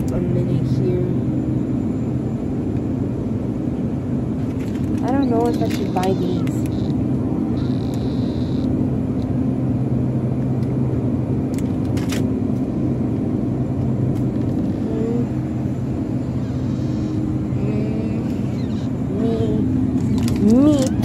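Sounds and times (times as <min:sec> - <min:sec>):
refrigeration hum: 0:00.0 - 0:21.0.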